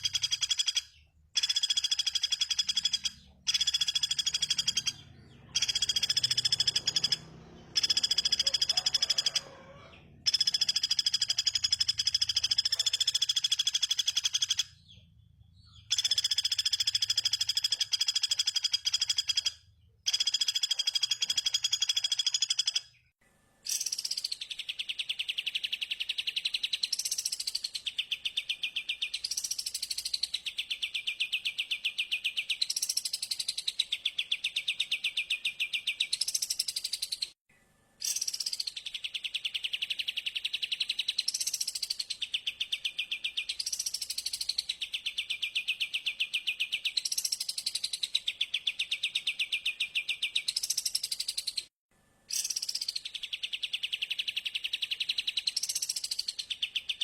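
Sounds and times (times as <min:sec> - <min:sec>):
recorded songbird trill: 0:00.0 - 0:37.4, 0:38.0 - 0:51.7, 0:52.3 - 0:57.0.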